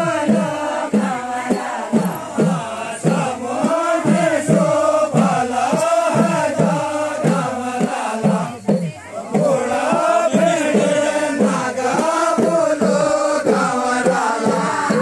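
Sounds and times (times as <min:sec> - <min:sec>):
group singing folk song: 0:00.0 - 0:15.0
sharp rhythmic beats: 0:00.0 - 0:15.0.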